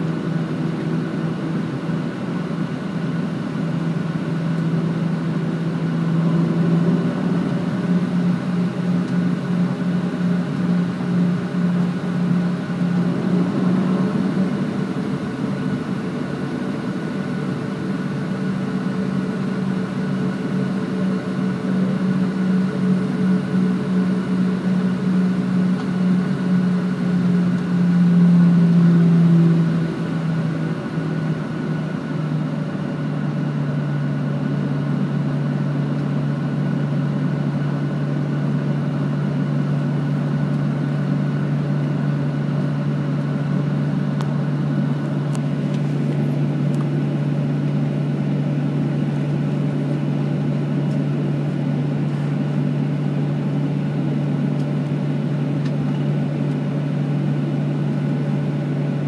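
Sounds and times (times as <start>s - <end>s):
jet engines humming in cabin: 0.0s - 59.0s.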